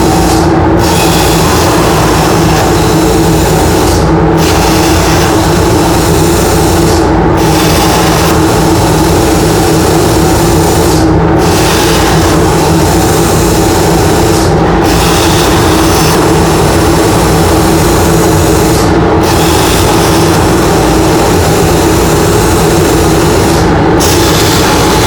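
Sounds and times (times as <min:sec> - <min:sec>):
dust collector humming: 0:00.0 - 0:25.0
plasma cutter arc hissing: 0:00.0 - 0:25.0.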